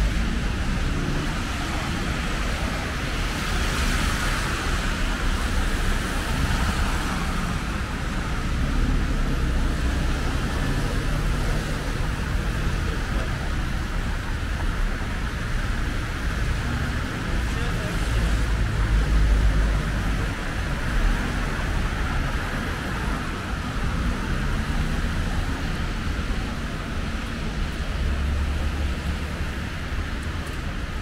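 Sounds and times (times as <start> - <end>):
car and lorry engines rumbling: 0.0 - 31.0
tyres hissing on wet road: 0.0 - 31.0.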